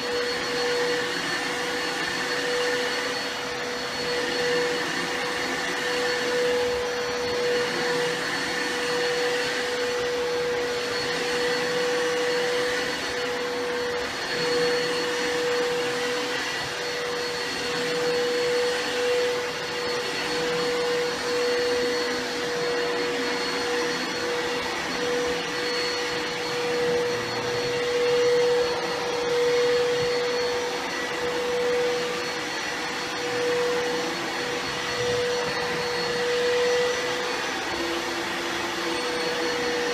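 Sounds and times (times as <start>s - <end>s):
carpet cleaner motor whine: 0.0s - 39.9s.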